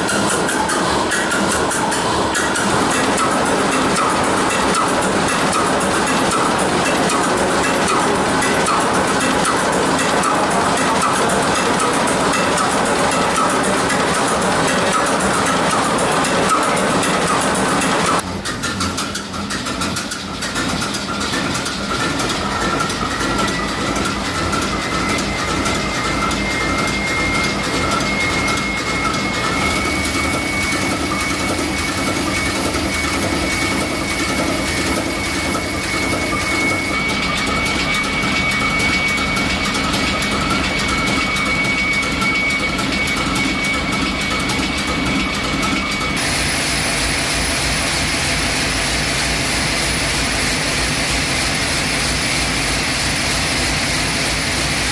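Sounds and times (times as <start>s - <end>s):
high engine whine: 0.0s - 54.9s
large diesel engine running: 0.0s - 54.9s.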